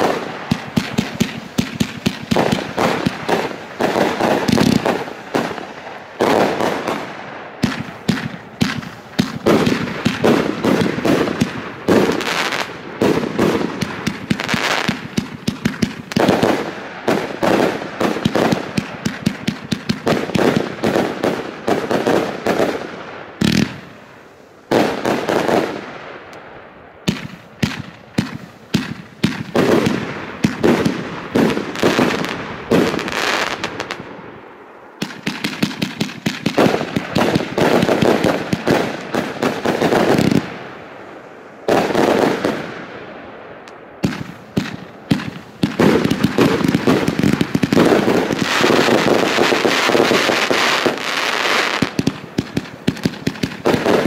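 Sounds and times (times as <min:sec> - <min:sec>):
firework battery firing volleys: 0:00.0 - 0:26.4, 0:27.0 - 0:41.0, 0:43.6 - 0:54.0.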